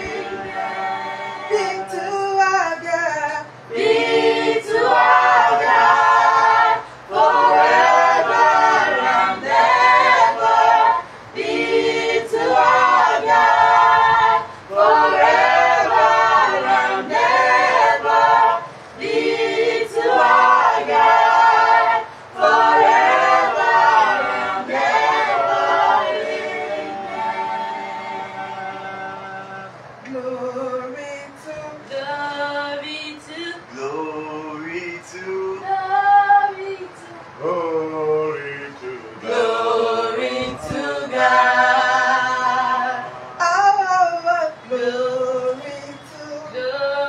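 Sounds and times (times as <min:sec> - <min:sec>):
group singing a cappella: 0:00.0 - 0:47.0.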